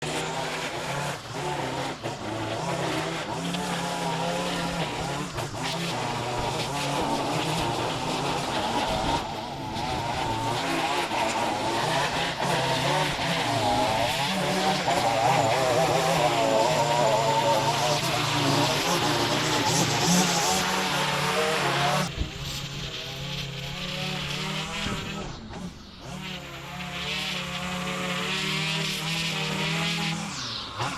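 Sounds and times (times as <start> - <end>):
small gasoline engine running: 0.0 - 30.9.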